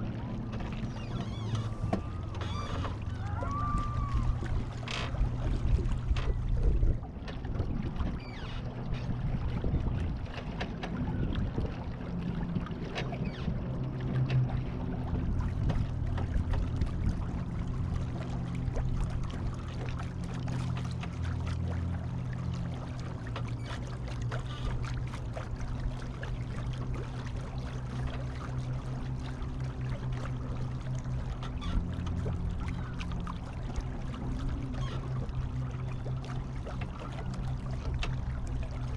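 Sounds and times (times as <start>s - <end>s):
water splashing along hull: 0.0s - 38.9s.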